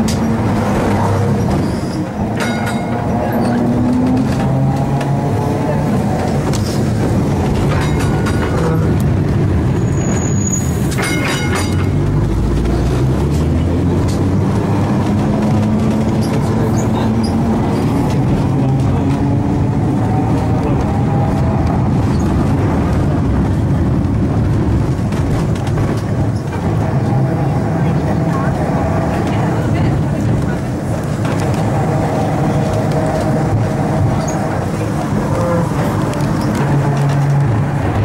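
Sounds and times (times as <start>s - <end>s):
tram motor tone: 0.0s - 38.0s
tram wheels rumbling on rails: 0.0s - 38.0s.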